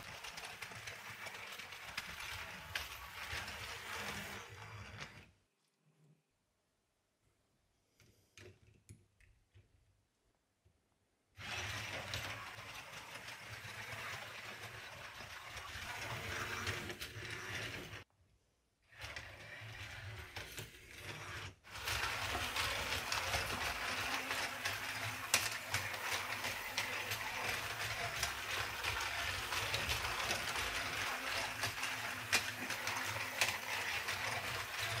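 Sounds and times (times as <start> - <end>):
toy train motor whirring: 0.0 - 5.3, 11.4 - 18.1, 18.9 - 35.0
wheels rattling on plastic track: 0.0 - 5.3, 11.4 - 18.1, 18.9 - 35.0.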